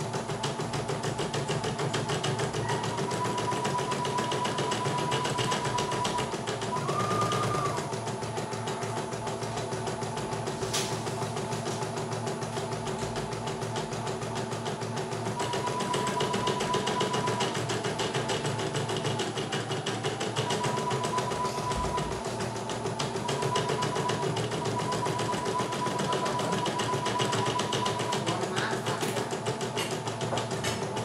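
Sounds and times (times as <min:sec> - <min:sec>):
embroidery machine stitching: 0:00.0 - 0:31.0.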